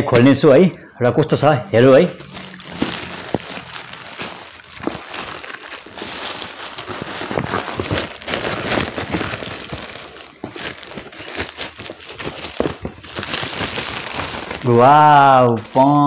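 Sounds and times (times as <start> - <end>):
plastic mailer bag crinkling: 2.2 - 16.0.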